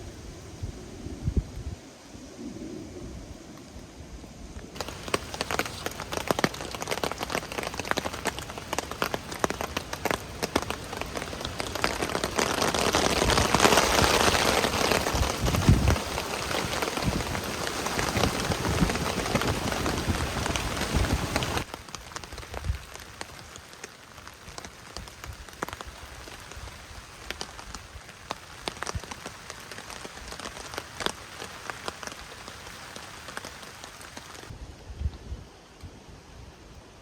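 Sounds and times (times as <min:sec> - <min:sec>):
heavy rain tapping on a surface: 0:04.8 - 0:34.5.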